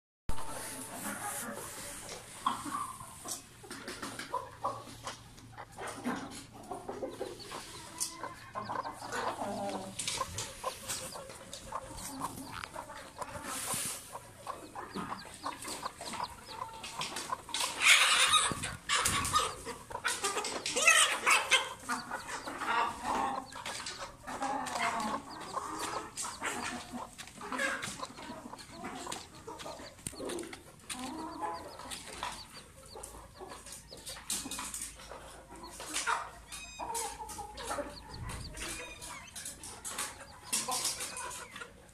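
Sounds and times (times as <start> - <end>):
hen clucking: 0.3 - 41.9.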